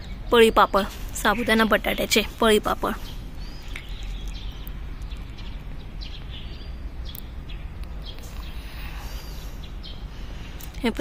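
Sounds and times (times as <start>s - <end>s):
bird chirps and calls: 0.0s - 10.7s
low outdoor rumble: 0.0s - 11.0s.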